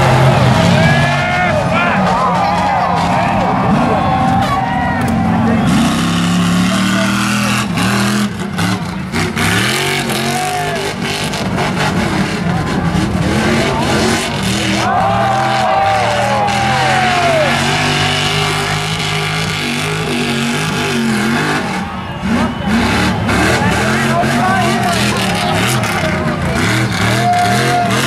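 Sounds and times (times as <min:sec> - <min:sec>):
pickup truck engine revving: 0:00.0 - 0:28.0.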